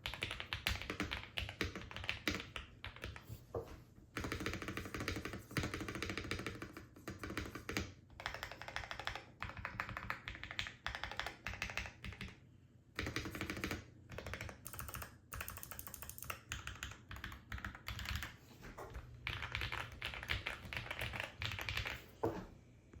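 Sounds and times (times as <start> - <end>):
mechanical keyboard typing: 0.0 - 3.3, 4.2 - 12.4, 13.0 - 22.0.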